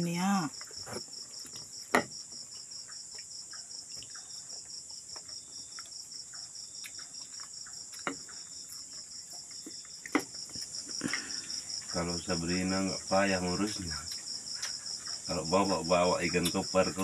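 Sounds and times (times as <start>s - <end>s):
cricket-like insect chirping: 0.0s - 17.0s.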